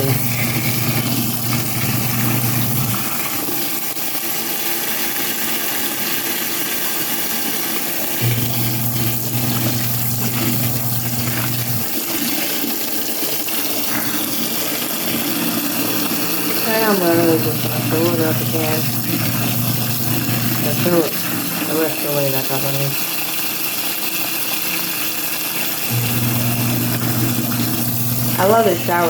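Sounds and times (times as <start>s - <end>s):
washing machine motor humming: 0.0s - 29.0s
water and clothes churning: 0.0s - 29.0s.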